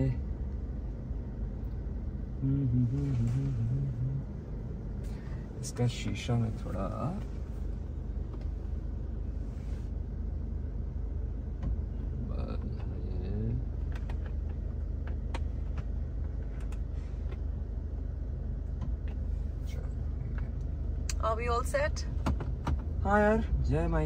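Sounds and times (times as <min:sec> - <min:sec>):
diesel engine rumble inside cabin: 0:00.0 - 0:24.0.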